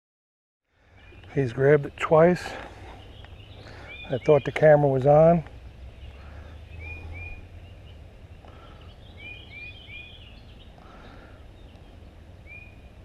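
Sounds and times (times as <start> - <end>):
birds chirping: 0.7 - 13.0
low background rumble: 0.8 - 13.0.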